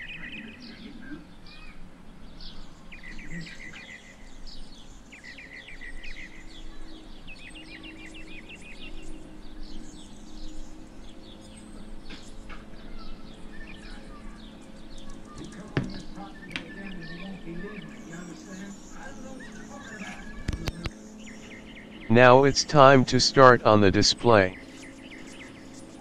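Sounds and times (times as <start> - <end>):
small birds chirping: 0.0 - 22.1.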